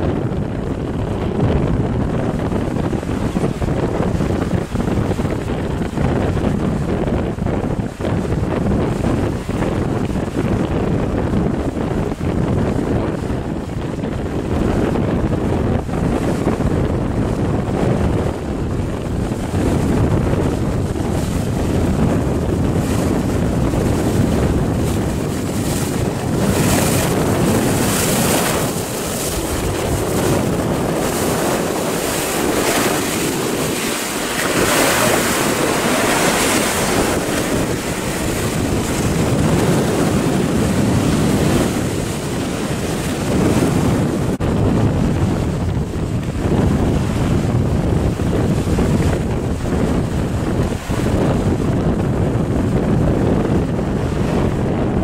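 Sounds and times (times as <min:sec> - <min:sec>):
breaking waves: 0:00.0 - 0:55.0
wind buffeting microphone: 0:00.0 - 0:55.0.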